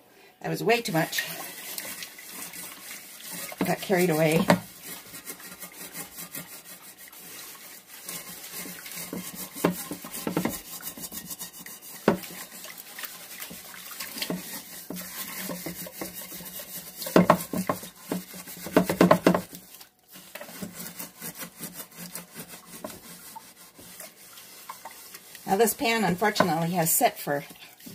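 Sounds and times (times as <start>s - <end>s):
scrubbing pad on steel pot: 0.5s - 27.9s.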